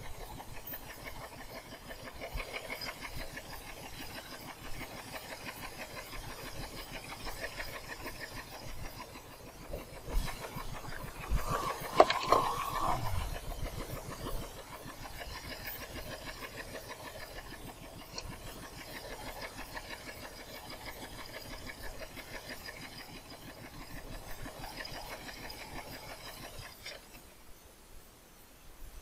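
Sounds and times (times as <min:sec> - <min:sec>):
small boat engine running: 0:00.0 - 0:27.5.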